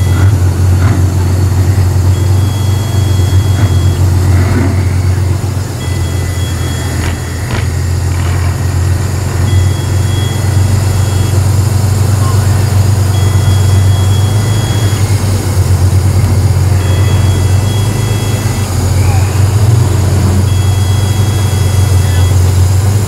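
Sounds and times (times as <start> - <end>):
truck diesel engine rumbling: 0.0 - 23.0.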